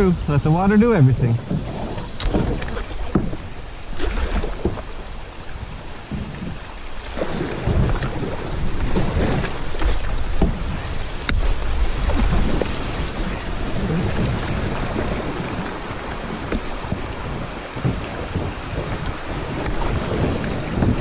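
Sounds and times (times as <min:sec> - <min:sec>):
river water rushing: 0:00.0 - 0:21.0
wind buffeting microphone: 0:00.0 - 0:21.0.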